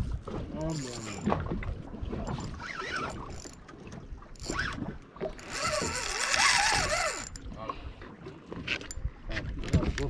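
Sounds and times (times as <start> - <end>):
boat engine rumble: 0.0 - 10.0
wind: 0.0 - 10.0.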